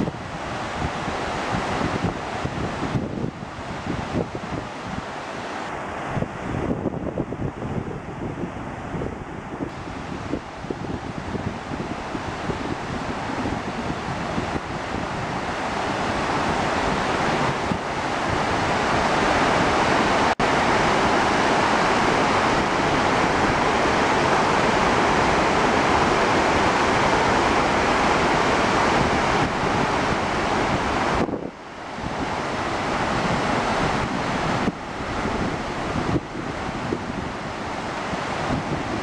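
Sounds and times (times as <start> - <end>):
waterfall rushing over rocks: 0.0 - 7.2, 9.7 - 39.0.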